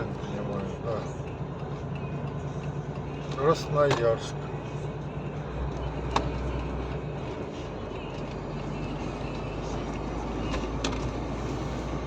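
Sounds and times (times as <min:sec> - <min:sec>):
vehicle engine and road drone: 0:00.0 - 0:12.0.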